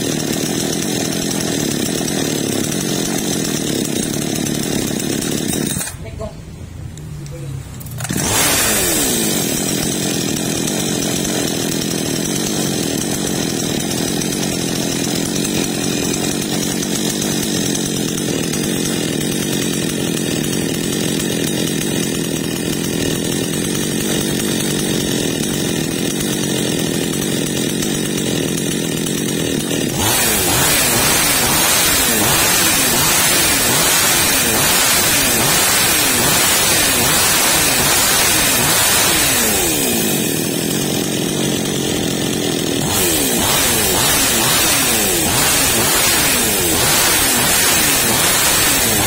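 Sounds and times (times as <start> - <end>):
two-stroke chainsaw engine running: 0.0 - 6.4, 7.2 - 49.0.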